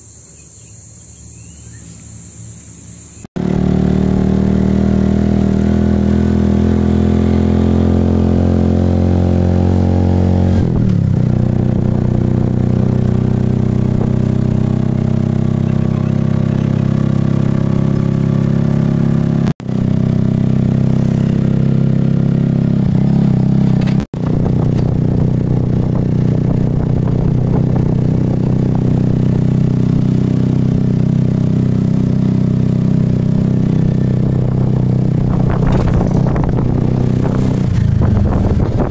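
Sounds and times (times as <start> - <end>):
small motorcycle engine running: 0.0 - 38.9.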